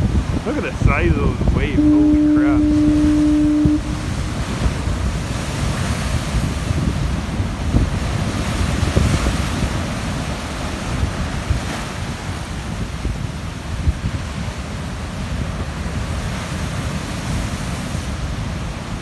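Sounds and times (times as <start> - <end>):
ocean surf breaking on rocks: 0.0 - 19.0
wind buffeting microphone: 0.0 - 19.0.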